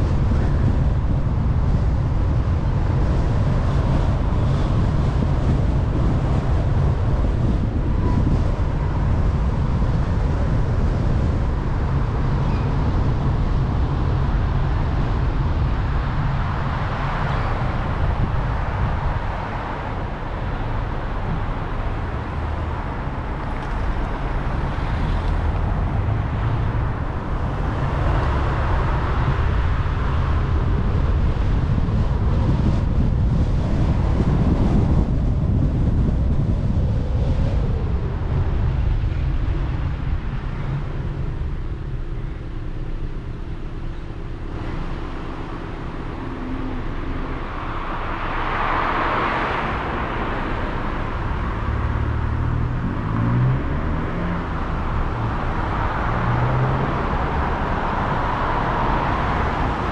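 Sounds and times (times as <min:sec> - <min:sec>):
car engine and tyre rumble: 0:00.0 - 0:59.9
traffic noise: 0:00.0 - 0:59.9.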